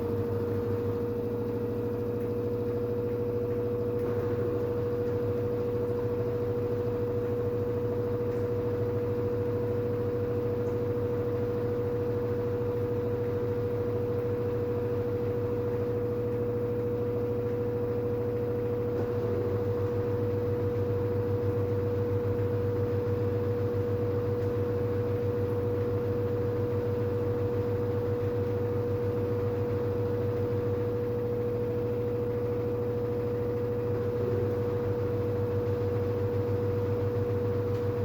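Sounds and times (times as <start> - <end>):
washing machine drum spinning: 0.0 - 38.0.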